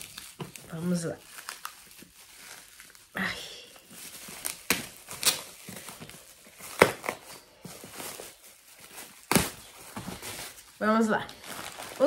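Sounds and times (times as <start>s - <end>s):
packaging rustling and tearing: 0.0s - 12.0s.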